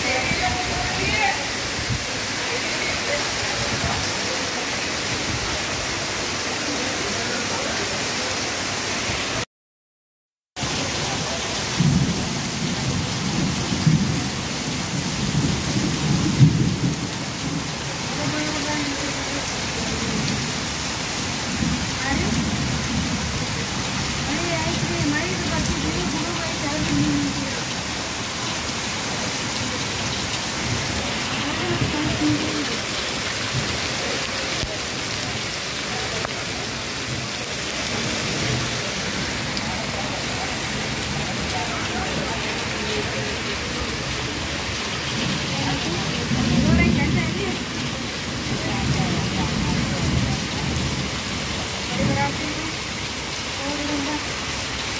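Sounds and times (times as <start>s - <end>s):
heavy rain on flooded street: 0.0s - 9.5s, 10.6s - 54.9s.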